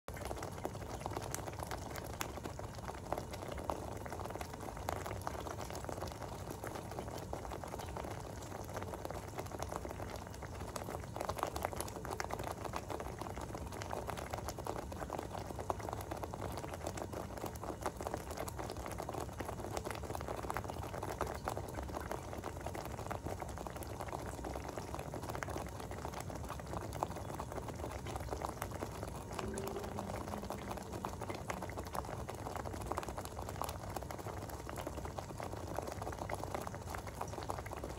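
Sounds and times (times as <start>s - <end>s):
thick sauce bubbling in a pot: 0.1s - 37.9s.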